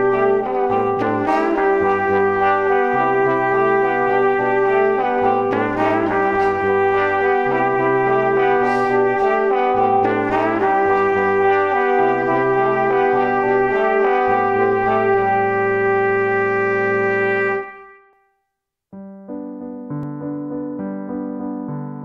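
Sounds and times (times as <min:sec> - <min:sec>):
sustained chords over bass line: 0:00.0 - 0:17.7.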